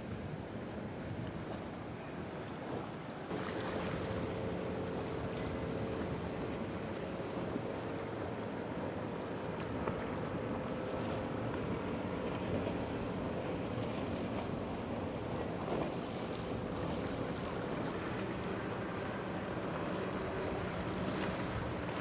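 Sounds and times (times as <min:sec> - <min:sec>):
surf: 0:00.0 - 0:22.0
wind: 0:00.0 - 0:22.0
boat engine running: 0:02.3 - 0:22.0.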